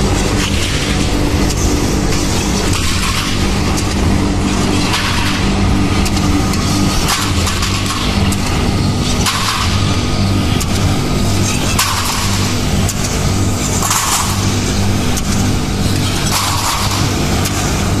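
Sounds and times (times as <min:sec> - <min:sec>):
metal clatter and hiss: 0:00.0 - 0:18.0
motor and hydraulic pump hum: 0:00.0 - 0:18.0.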